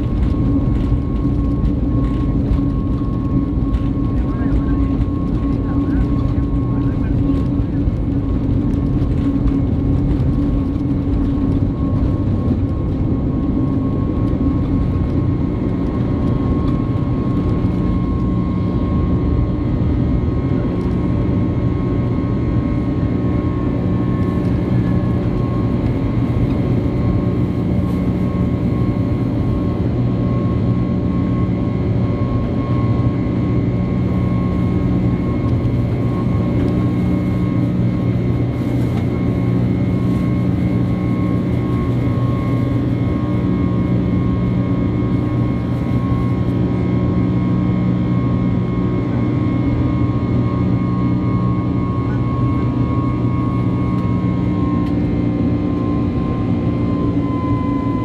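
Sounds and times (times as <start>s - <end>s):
low engine tones: 0.0s - 48.8s
jet engines and airflow in cabin: 0.0s - 58.0s.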